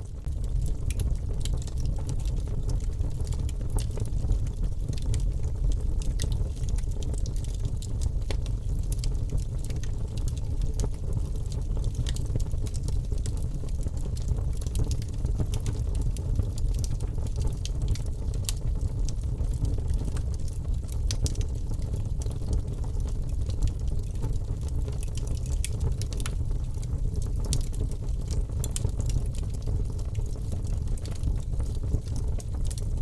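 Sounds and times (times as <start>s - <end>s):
low rumble of flames: 0.0s - 33.0s
wood fire crackling: 0.0s - 33.0s
fire popping: 0.2s - 33.0s.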